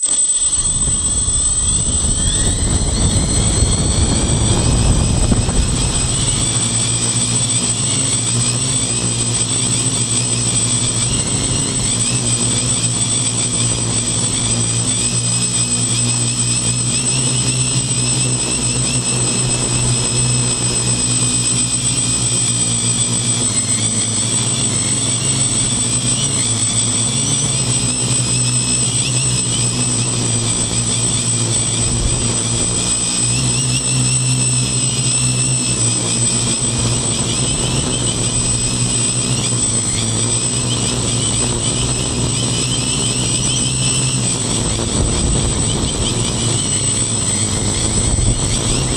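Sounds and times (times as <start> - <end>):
quadcopter motors humming and whining: 0.0 - 48.9.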